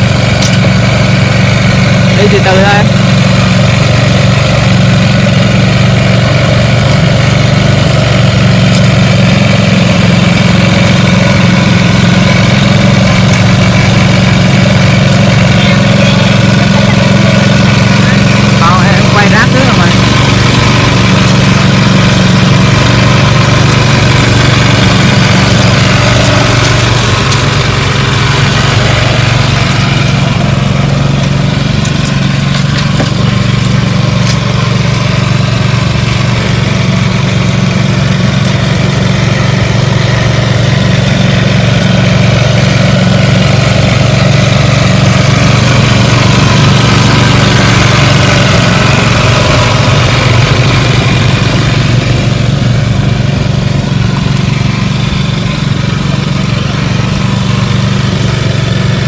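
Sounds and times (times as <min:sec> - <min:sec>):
small petrol engine droning: 0:00.0 - 0:59.0.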